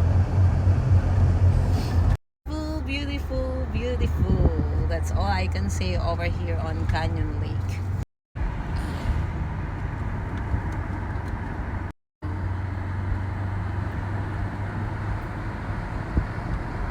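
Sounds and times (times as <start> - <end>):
engine and road drone: 0.0 - 16.9.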